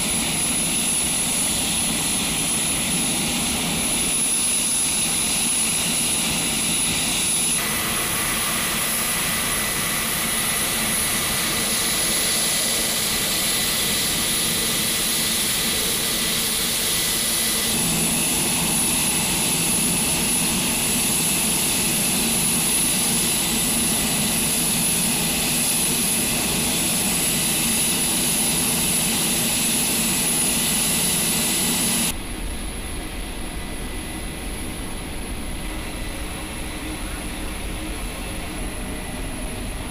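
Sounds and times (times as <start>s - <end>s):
turboprop engines with turbine whine: 0.0s - 39.9s.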